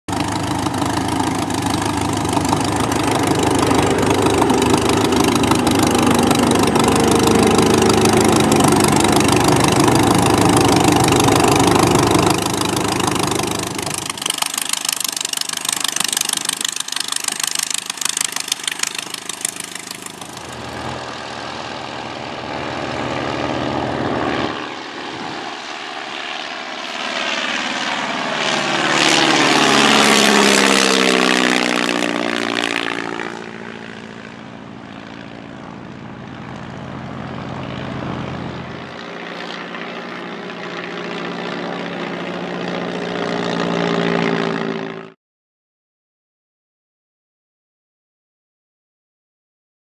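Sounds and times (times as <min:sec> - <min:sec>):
biplane engine and propeller: 0:00.1 - 0:45.2.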